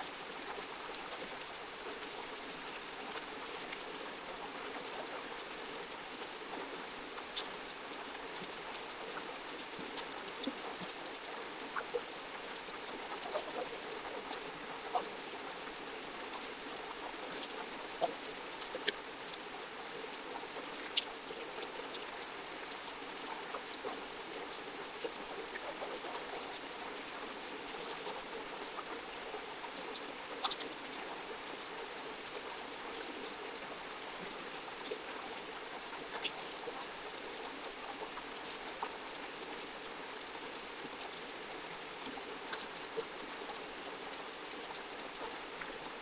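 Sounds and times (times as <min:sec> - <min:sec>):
stream water flowing: 0:00.0 - 0:46.0.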